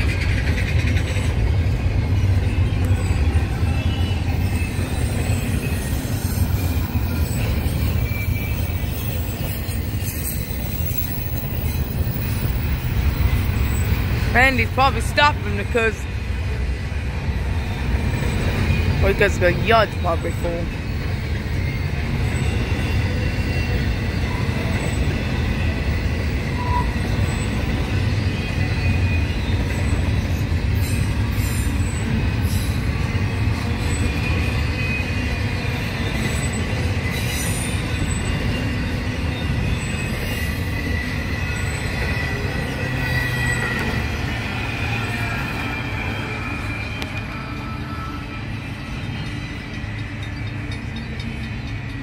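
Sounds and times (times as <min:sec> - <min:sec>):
high-pitched steel squeal: 0:00.0 - 0:14.2, 0:17.3 - 0:52.0
freight train rumbling on rails: 0:00.0 - 0:52.0.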